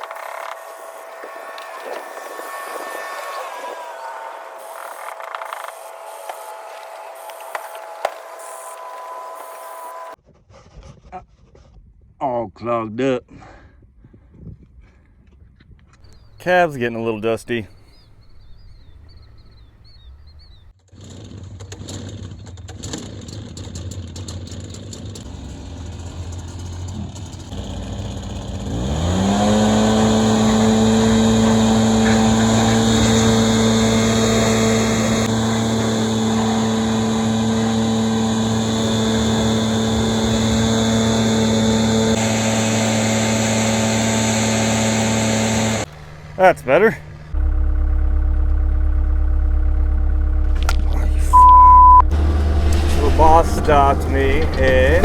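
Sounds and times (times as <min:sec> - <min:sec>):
excavator diesel engine revving: 0:00.0 - 0:10.2, 0:16.0 - 0:20.6, 0:25.1 - 0:55.0.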